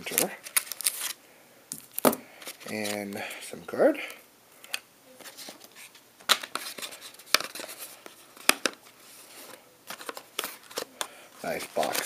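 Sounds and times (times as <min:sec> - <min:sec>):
soft rustling of packaging: 0:00.0 - 0:01.2, 0:01.8 - 0:12.0.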